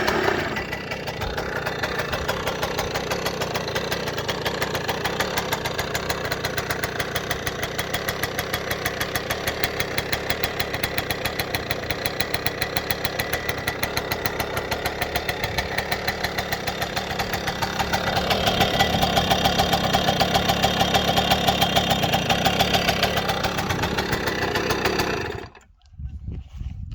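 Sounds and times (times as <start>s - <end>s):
two-stroke engine running: 0.0s - 25.7s.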